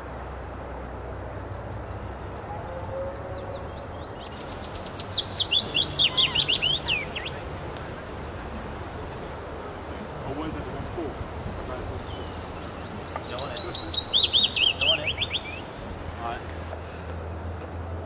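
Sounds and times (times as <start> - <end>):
low background noise: 0.0 - 18.0
songbird singing: 1.3 - 16.8.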